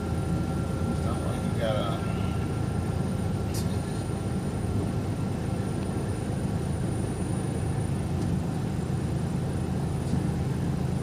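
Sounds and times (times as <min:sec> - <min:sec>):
truck engine and tyres droning: 0:00.0 - 0:11.0.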